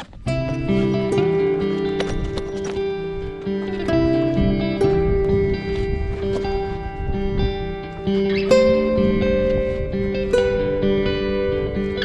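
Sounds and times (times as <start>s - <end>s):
low rhythmic pulse: 0.0s - 12.0s
sustained instrumental notes: 0.2s - 12.0s.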